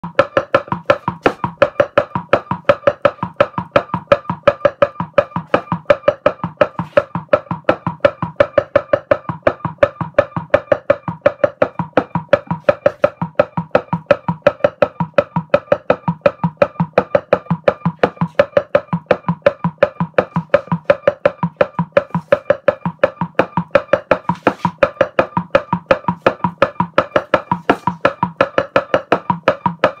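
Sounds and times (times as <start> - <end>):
electronic oscillator pulses: 0.0 - 30.0.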